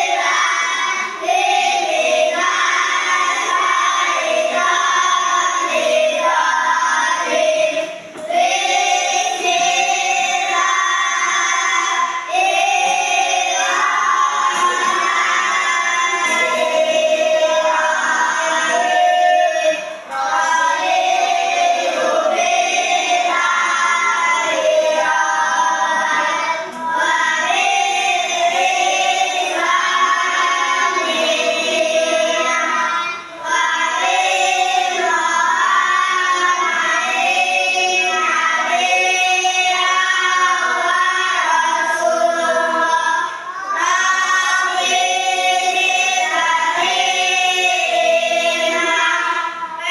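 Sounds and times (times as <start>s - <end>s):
children singing in unison: 0.0s - 49.9s.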